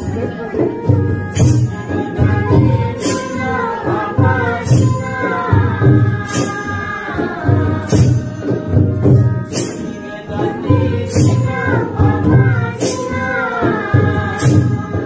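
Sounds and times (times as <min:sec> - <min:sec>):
bright cymbal strikes: 0:00.0 - 0:15.0
group singing a chant-like melody: 0:00.0 - 0:15.0
steady drum beat: 0:00.0 - 0:15.0.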